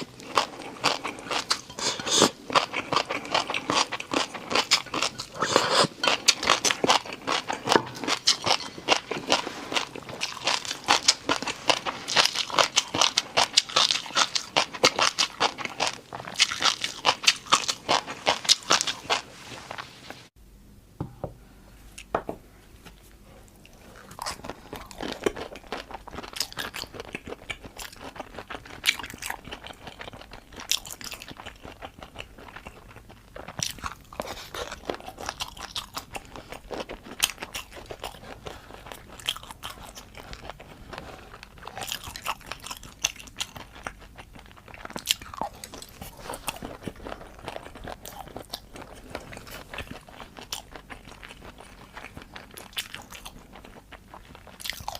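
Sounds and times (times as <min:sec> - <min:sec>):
person chewing crunchy food: 0:00.0 - 0:20.3, 0:22.8 - 0:54.9.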